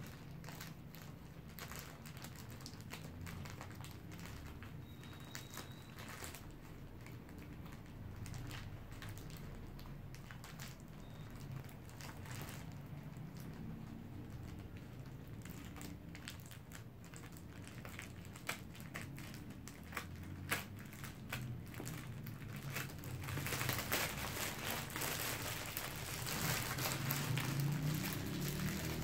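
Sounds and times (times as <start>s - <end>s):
plastic wrapping crinkling: 0.0s - 29.0s.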